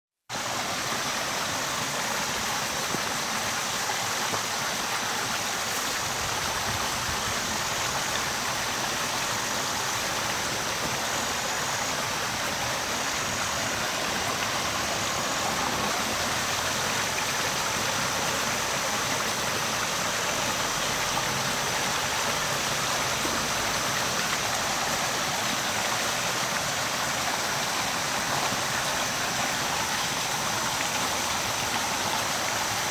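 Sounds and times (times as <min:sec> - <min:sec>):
running water: 0:00.3 - 0:32.9.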